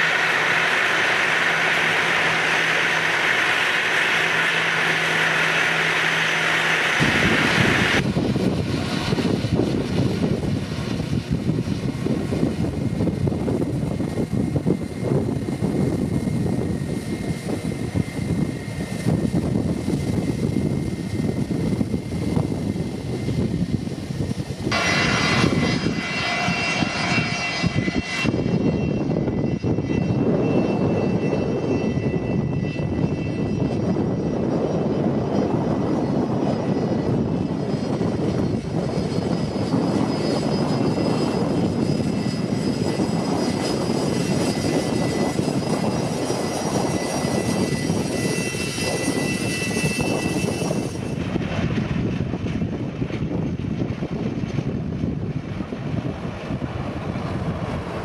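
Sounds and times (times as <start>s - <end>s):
jet engines idling: 0.0s - 58.0s
wind buffeting microphone: 0.0s - 58.0s.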